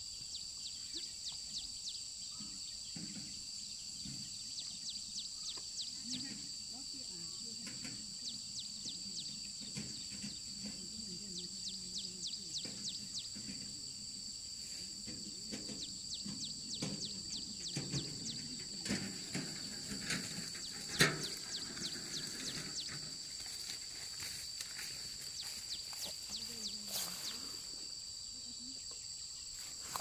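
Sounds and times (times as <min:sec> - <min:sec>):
insects buzzing high-pitched: 0:00.0 - 0:30.0
rustles: 0:06.0 - 0:30.0.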